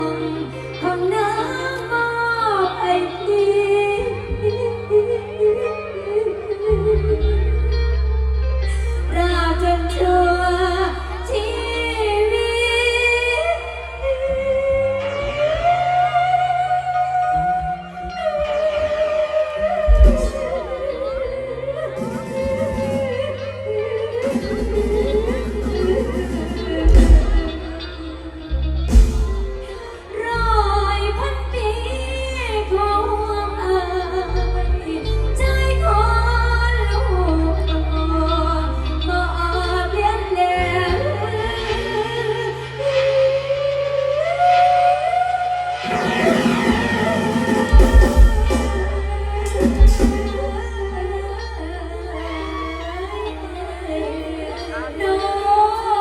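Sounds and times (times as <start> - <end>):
backing music with held bass: 0.0 - 43.0, 45.7 - 56.0
woman singing: 0.0 - 56.0.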